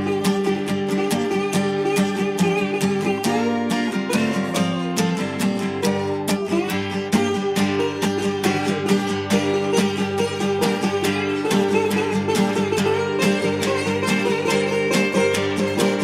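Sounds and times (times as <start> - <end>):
country song with acoustic guitar: 0.0 - 16.0.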